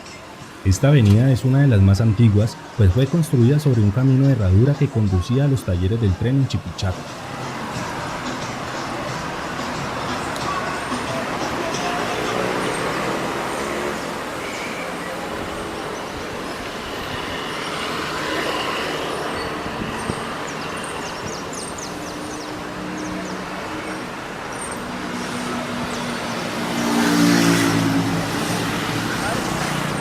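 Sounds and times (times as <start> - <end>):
cars and buses passing: 0.0 - 30.0.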